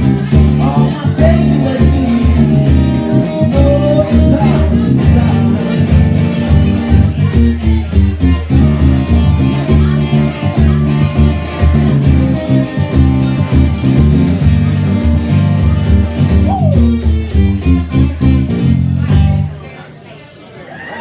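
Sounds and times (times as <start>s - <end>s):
drums steady beat: 0.0s - 19.6s
electric guitar playing: 0.0s - 19.7s
bass guitar: 0.0s - 19.8s.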